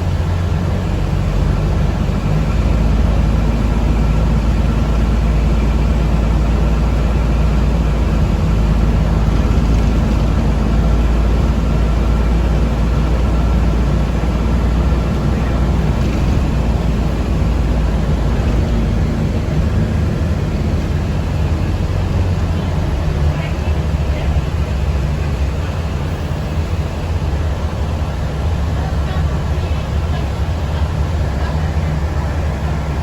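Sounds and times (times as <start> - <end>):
bus interior rumble: 0.0 - 33.0.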